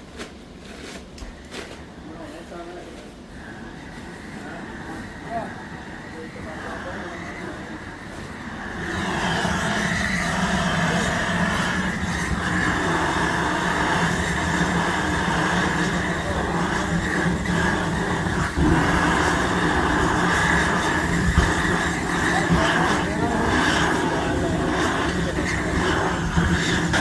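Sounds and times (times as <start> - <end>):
industrial machinery humming: 1.8 - 27.0.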